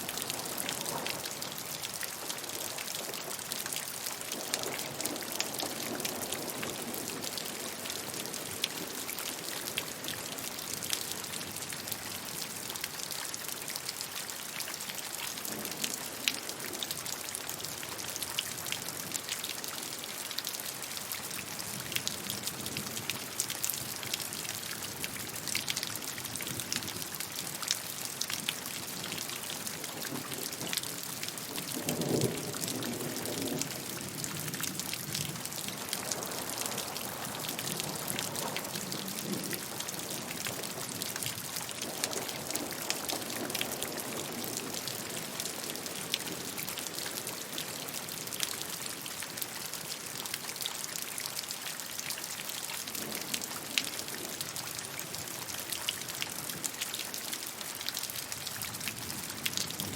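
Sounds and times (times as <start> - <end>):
raindrops pattering: 0.0 - 59.9
steady rain hissing: 0.0 - 59.9.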